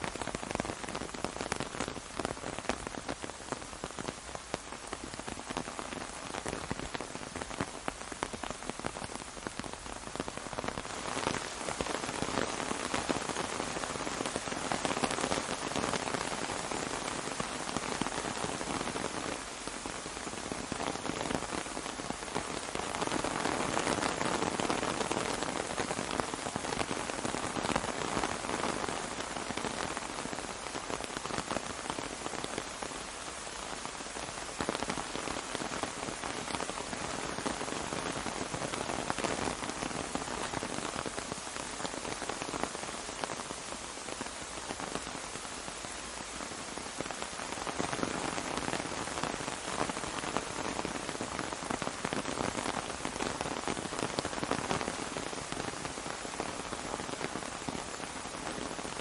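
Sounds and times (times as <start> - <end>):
rain pattering on an umbrella: 0.0 - 59.0.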